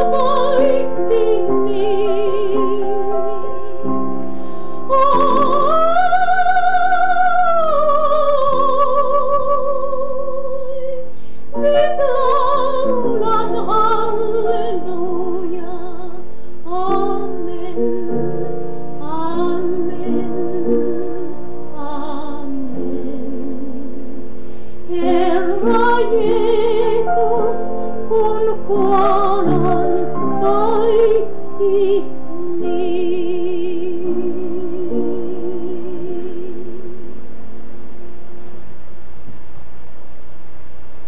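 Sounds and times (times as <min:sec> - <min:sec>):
woman singing a hymn: 0:00.0 - 0:04.0, 0:04.8 - 0:24.0, 0:24.9 - 0:37.1.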